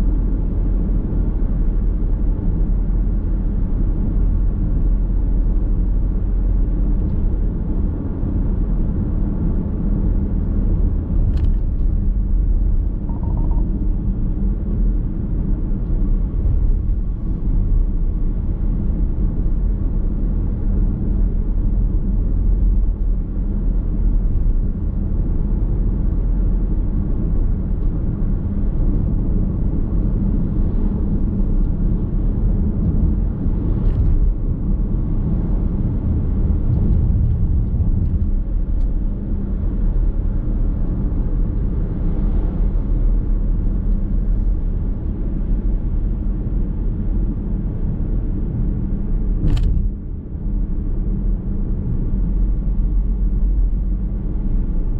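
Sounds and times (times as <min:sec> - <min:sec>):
road and tyre noise: 0:00.0 - 0:54.9.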